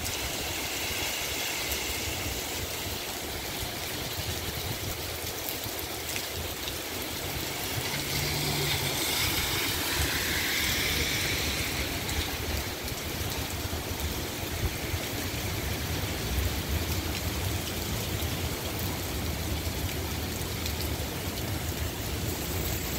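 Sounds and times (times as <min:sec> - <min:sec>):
heavy rain on street: 0:00.0 - 0:22.9
tyres running through water: 0:00.0 - 0:22.9.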